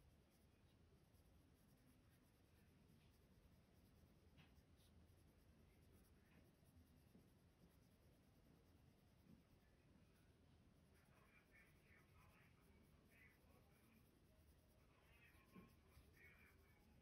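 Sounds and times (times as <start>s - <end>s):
colored pencil scratching on paper: 0.0s - 17.0s.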